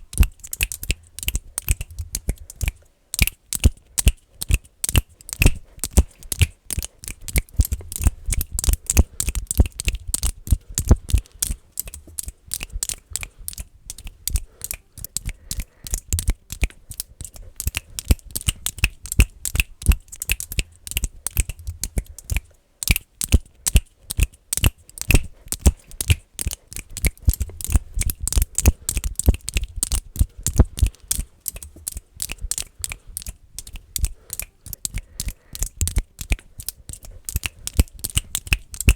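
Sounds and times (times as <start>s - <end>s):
fingers clicking: 0.0s - 38.9s.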